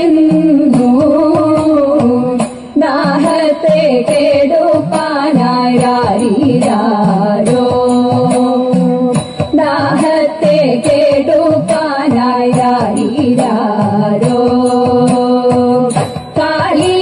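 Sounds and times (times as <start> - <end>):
person singing devotional melody: 0.0 - 17.0.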